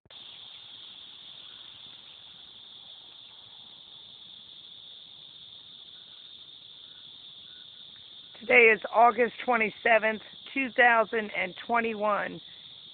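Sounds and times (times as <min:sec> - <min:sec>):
cicadas buzzing: 0:00.1 - 0:12.9.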